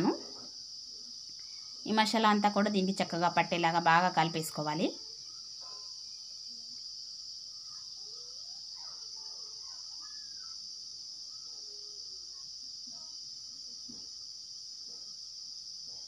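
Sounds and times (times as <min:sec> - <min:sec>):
faint distant voices: 0:00.0 - 0:16.0
high-pitched insect trill: 0:00.0 - 0:16.0.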